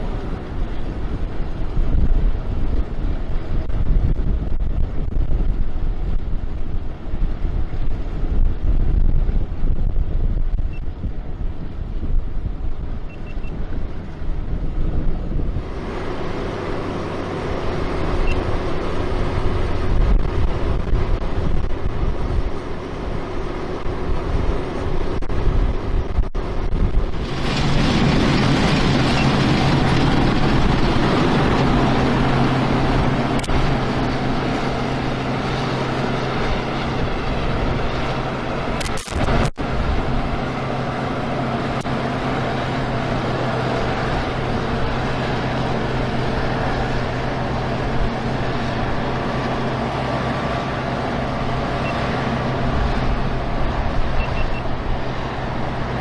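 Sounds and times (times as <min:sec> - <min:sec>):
large engine running: 0:00.0 - 0:56.0
wind buffeting microphone: 0:00.0 - 0:56.0.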